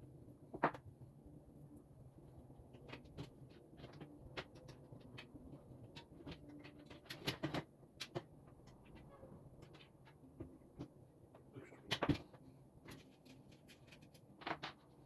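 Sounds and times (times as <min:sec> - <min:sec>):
clicks and knocks of parts: 0:02.7 - 0:15.0.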